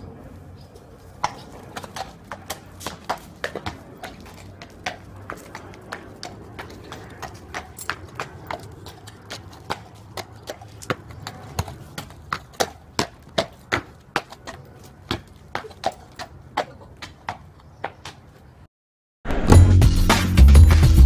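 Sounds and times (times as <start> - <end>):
horse hooves clip-clopping: 0.8 - 18.3.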